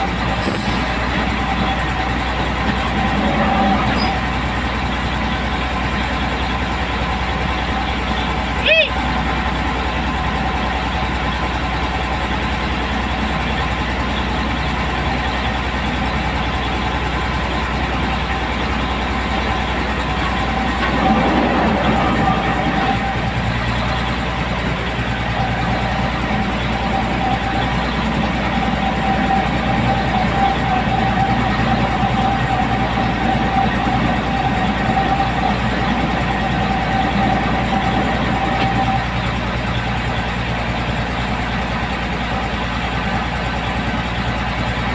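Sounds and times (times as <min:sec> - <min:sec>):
steady whine: 0:00.0 - 0:44.9
truck engine running: 0:00.0 - 0:44.9.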